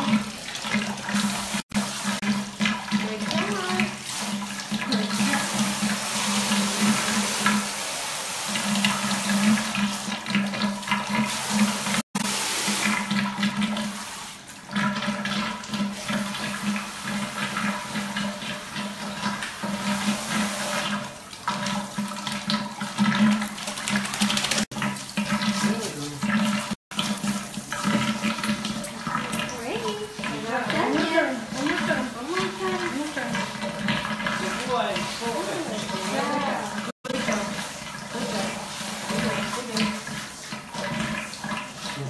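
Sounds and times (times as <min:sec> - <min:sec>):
faucet water rushing into tub: 0:00.0 - 0:42.0.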